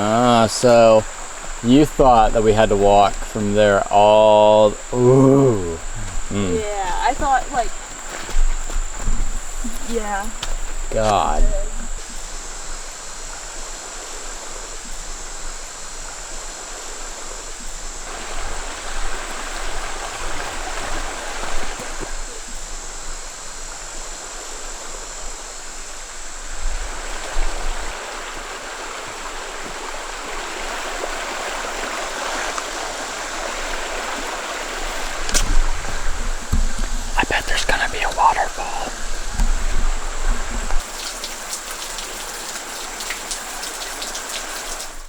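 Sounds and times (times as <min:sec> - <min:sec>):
stream rushing: 0:00.0 - 0:45.0.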